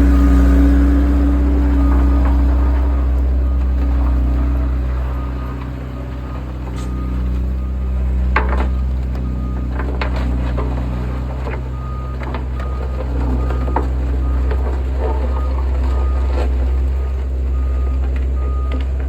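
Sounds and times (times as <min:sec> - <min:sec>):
diesel engine running: 0:00.0 - 0:19.0
reversing alarm beeping: 0:00.0 - 0:19.0.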